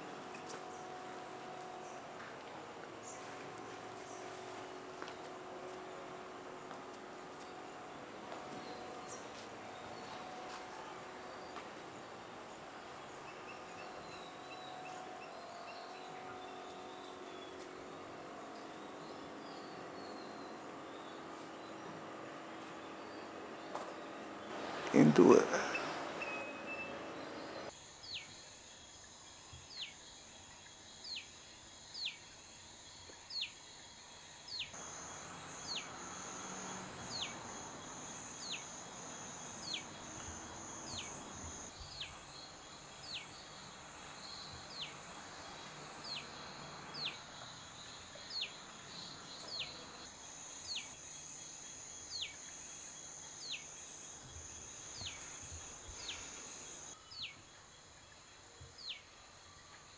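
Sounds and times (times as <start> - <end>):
insect drone: 0.0 - 59.9.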